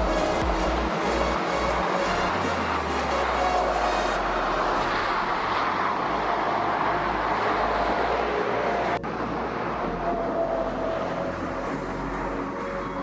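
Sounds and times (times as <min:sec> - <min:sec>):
motorway traffic noise: 0:00.0 - 0:13.0.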